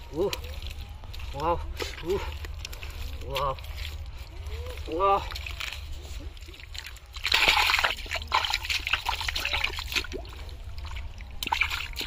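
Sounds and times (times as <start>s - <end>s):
hands squelching in wet mud: 0.0s - 12.0s.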